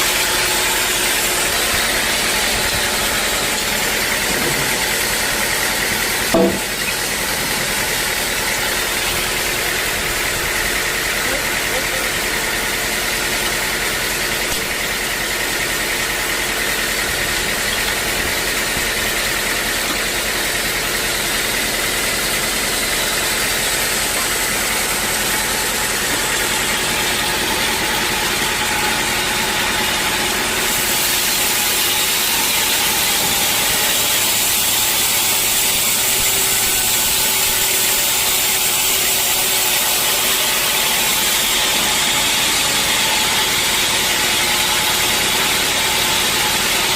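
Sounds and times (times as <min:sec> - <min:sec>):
sawmill saw whining: 0:00.0 - 0:46.9.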